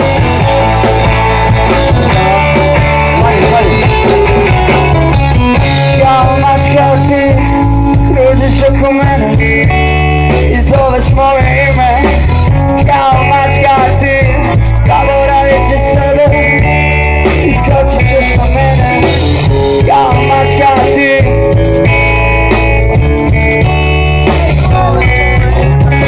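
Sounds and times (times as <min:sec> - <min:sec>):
bending lead guitar line: 0:00.0 - 0:26.0
live rock band playing: 0:00.0 - 0:26.0.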